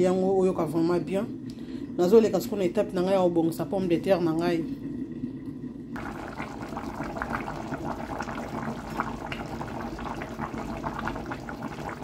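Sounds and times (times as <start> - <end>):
stew bubbling in a pot: 0.0 - 12.0.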